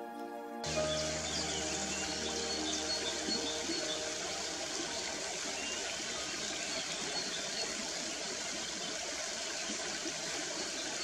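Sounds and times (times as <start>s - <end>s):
river water rushing over stones: 0.6s - 11.0s.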